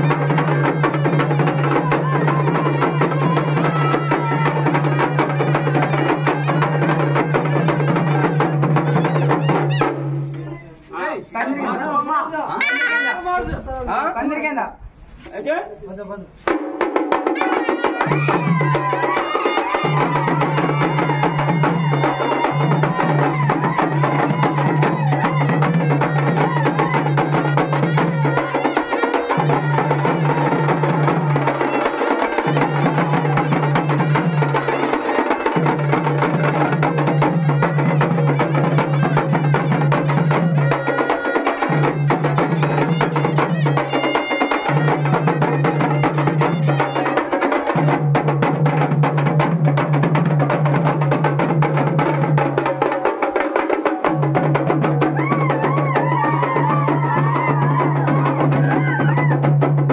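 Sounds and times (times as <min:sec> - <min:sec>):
drums beaten in fast rhythm: 0:00.0 - 0:59.9.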